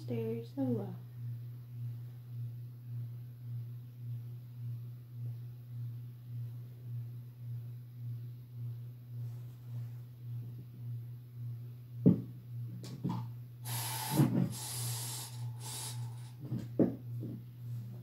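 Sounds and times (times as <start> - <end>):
low pulsing hum: 0.0 - 18.0.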